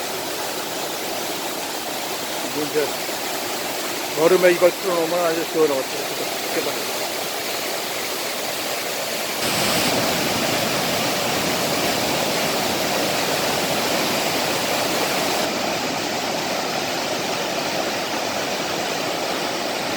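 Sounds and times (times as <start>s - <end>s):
stream rushing over rocks: 0.0s - 19.9s.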